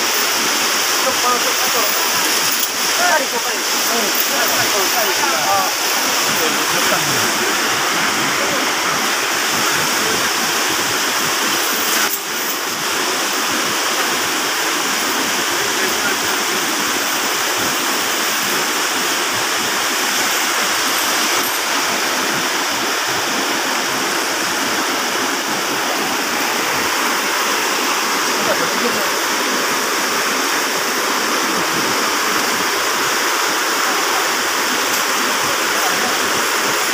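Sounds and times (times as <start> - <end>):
river rushing over rocks: 0.0 - 36.9.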